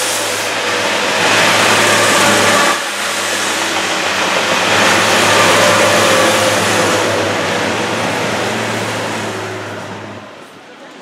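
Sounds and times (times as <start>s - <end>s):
diesel train engine drone: 0.0s - 11.0s
train wheels rumbling on rails: 0.0s - 11.0s.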